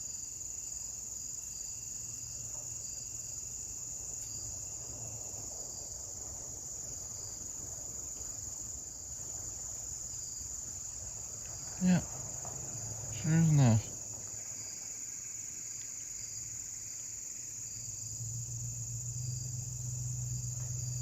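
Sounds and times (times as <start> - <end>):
crickets and insects chorus: 0.0 - 21.0.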